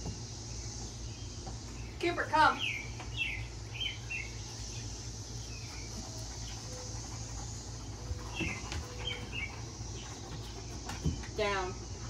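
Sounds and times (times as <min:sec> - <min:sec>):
birds chirping: 0:00.0 - 0:12.0
low hum: 0:00.0 - 0:12.0.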